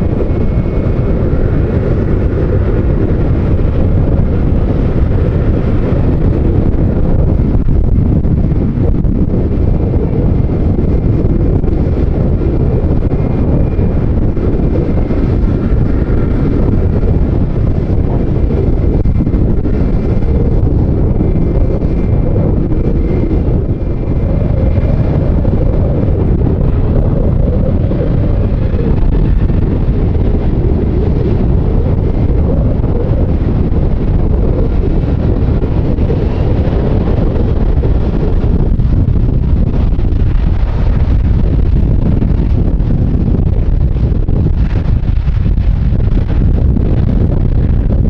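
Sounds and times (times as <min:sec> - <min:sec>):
faint jet engine whine: 0:00.0 - 0:48.0
wind buffeting microphone: 0:00.0 - 0:48.0.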